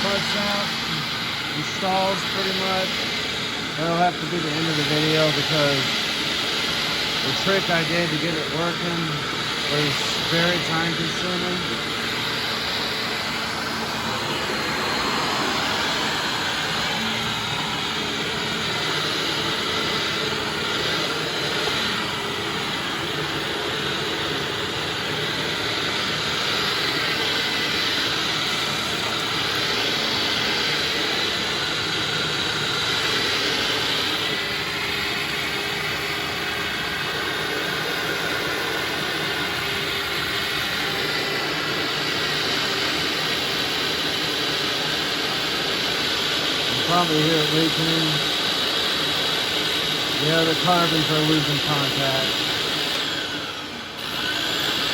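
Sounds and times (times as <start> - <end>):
vacuum cleaner motor running: 0.0 - 54.9.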